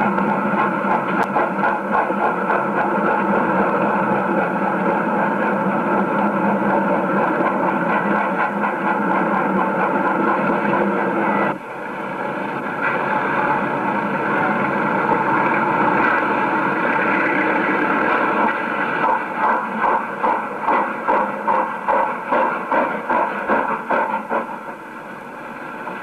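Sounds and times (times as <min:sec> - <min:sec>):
steam locomotive exhaust beats: 0:00.0 - 0:26.0
steam train running noise: 0:00.0 - 0:26.0.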